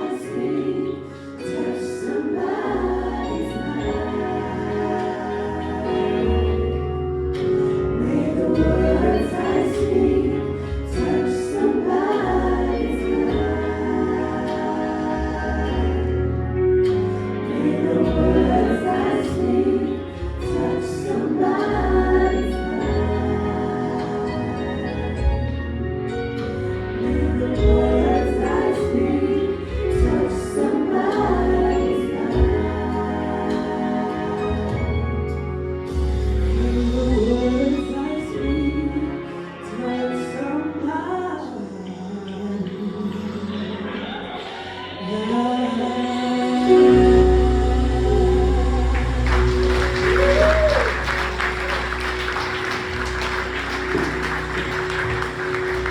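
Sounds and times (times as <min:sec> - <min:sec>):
instrumental backing with bass line: 0:00.0 - 0:41.3, 0:46.5 - 0:55.9
gospel choir singing: 0:00.0 - 0:55.9.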